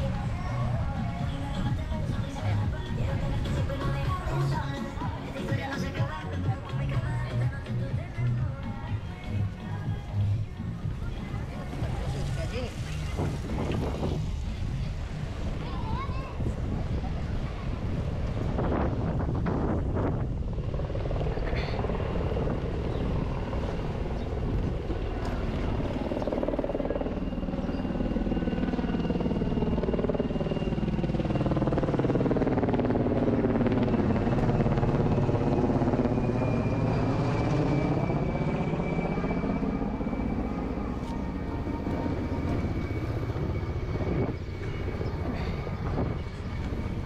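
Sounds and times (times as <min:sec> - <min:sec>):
helicopter engine and rotor hum: 0:00.0 - 0:47.0.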